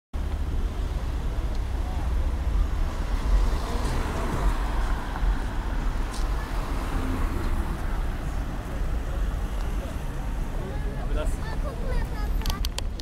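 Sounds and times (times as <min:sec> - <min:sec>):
cars idling in slow traffic: 0:00.2 - 0:13.0.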